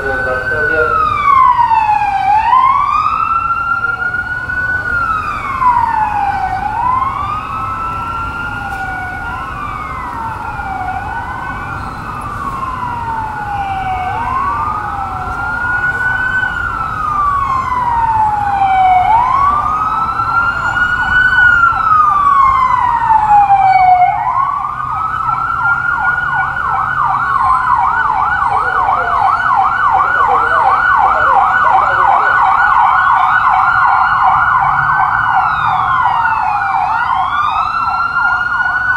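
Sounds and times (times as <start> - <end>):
police sirens wailing and yelping: 0.0 - 38.9.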